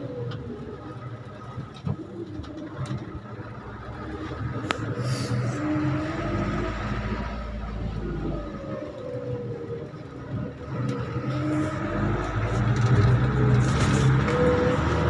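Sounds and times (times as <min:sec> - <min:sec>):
minibus engine and road noise: 0:00.0 - 0:15.0.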